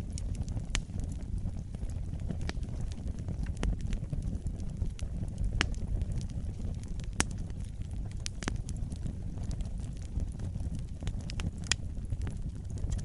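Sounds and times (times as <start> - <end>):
burning logs crackling and popping: 0.0 - 13.0
low rumble of flames: 0.0 - 13.0.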